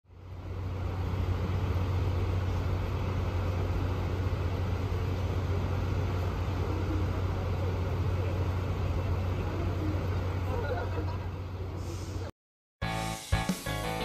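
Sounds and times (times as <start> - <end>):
street traffic rumble: 0.1 - 12.3.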